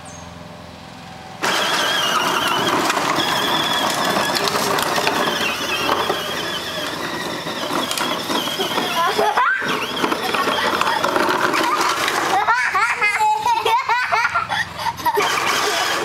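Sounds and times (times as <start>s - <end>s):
electric motors whining: 1.4s - 14.0s, 15.0s - 16.0s
plastic wheels rumbling on asphalt: 1.4s - 16.0s.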